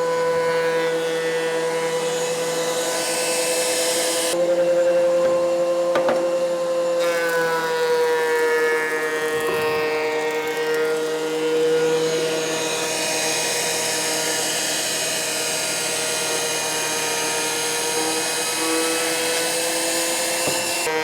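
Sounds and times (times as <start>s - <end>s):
thickness planer motor whine: 0.0s - 21.0s.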